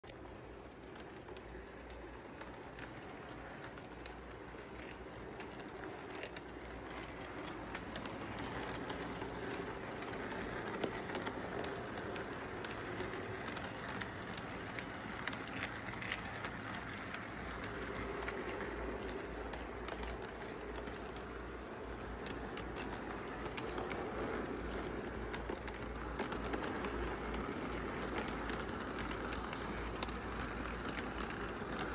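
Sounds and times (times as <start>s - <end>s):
wheels clicking on rails: 0.0s - 31.9s.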